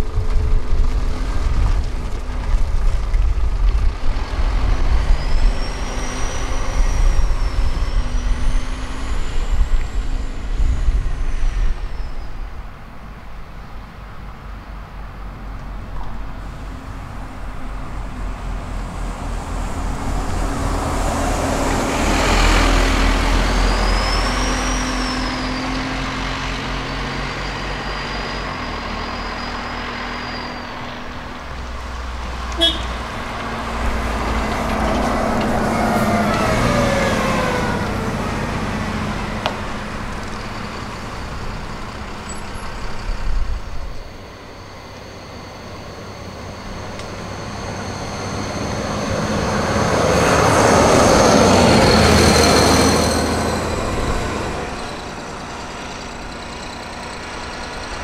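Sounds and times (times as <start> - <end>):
diesel buses driving past: 0.0 - 58.0
high whine: 0.0 - 58.0.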